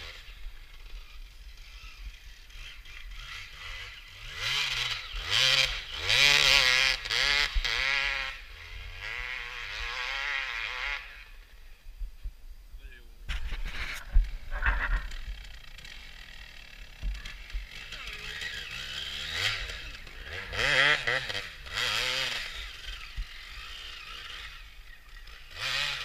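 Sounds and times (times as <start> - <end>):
motorcycle engine revving: 0.0 - 11.8, 13.3 - 26.0.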